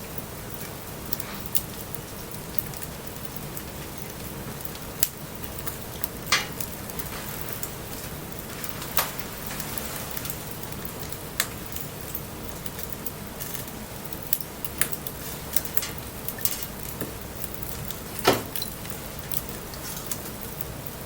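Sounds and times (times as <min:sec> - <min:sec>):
light rain hissing: 0:00.0 - 0:21.0
wood fire crackling and popping: 0:00.0 - 0:21.0.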